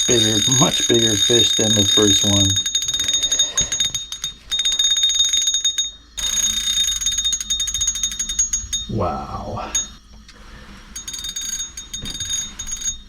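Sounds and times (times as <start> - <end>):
fishing reel drag buzzing: 0.0 - 8.9, 9.6 - 13.0.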